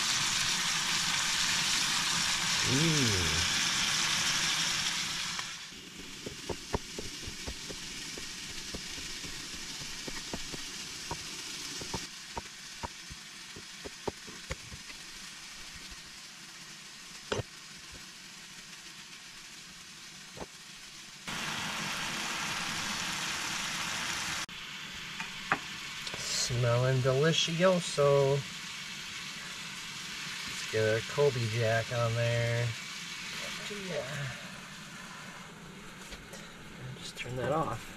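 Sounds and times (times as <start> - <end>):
chicken sizzling in skillet: 0.0 - 37.9.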